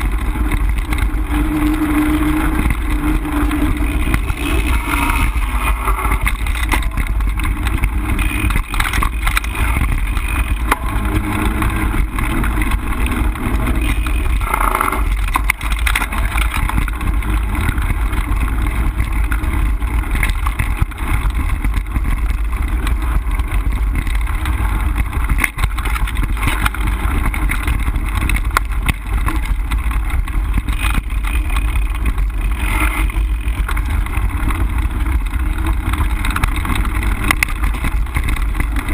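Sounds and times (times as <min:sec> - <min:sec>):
bike clicks and rattles: 0:00.0 - 0:38.9
wind and tyre rumble: 0:00.0 - 0:38.9.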